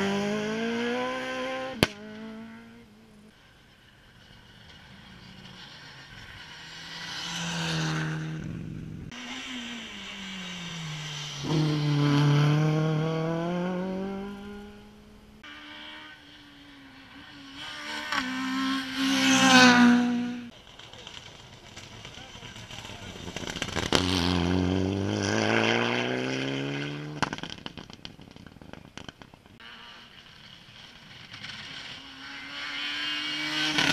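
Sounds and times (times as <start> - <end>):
rally cars passing at speed: 0.0 - 33.9.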